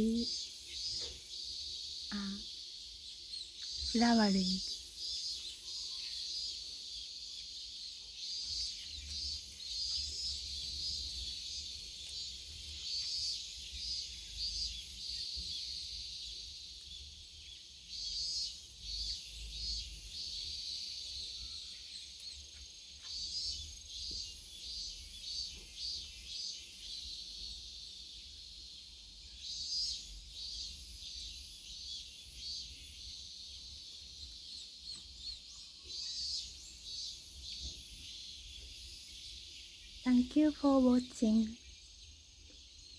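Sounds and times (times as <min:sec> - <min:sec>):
cicadas pulsing buzz: 0:00.0 - 0:42.9.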